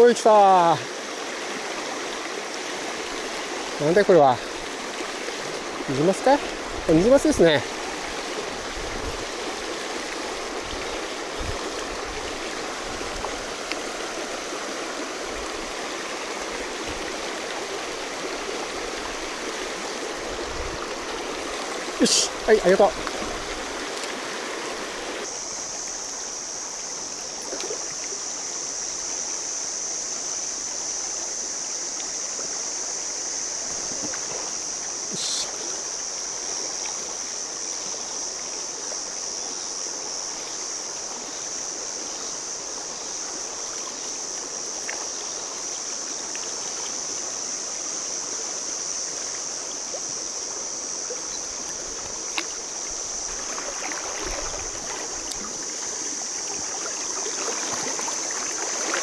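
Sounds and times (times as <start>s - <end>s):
river rushing over gravel: 0.0s - 28.6s, 39.9s - 59.0s.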